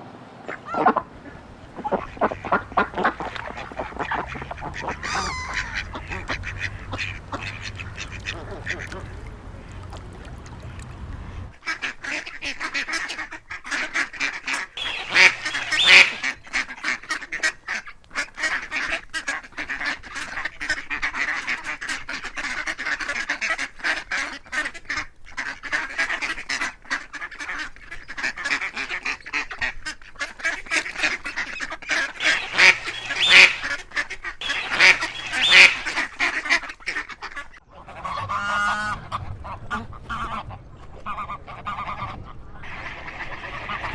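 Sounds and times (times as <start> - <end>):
ducks quacking: 0.4 - 43.9.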